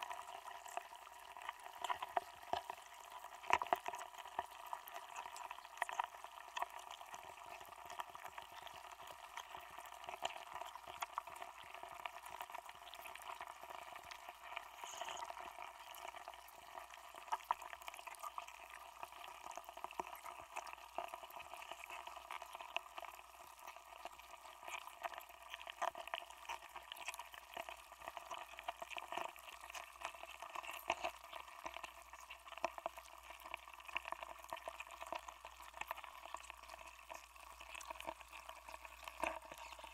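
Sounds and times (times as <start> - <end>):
ice crackling with clicks and pops: 0.0 - 39.9.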